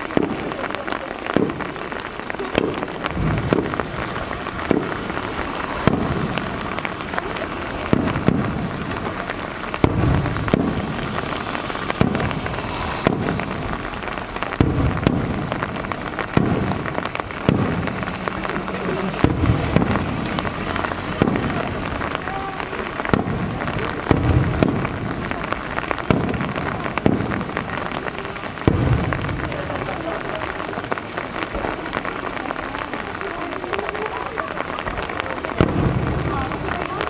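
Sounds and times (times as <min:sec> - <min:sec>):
fireworks booming: 0:00.0 - 0:37.0
rain falling: 0:00.0 - 0:37.0.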